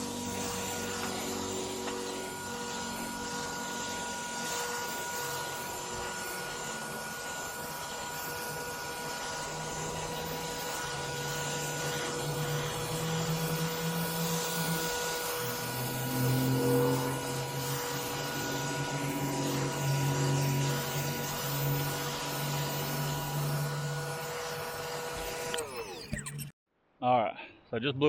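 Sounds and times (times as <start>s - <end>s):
leaf blower running: 0.0s - 26.1s.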